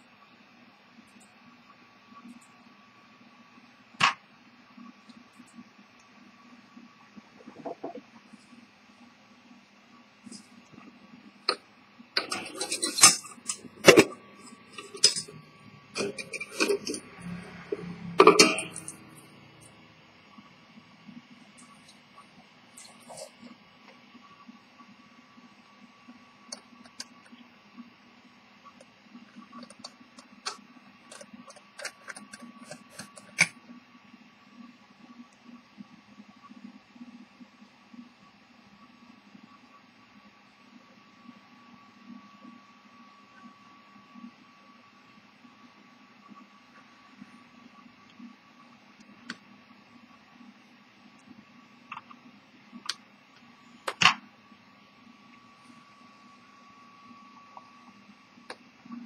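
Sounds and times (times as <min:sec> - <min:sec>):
faint hum with high whine: 0:00.0 - 0:59.0.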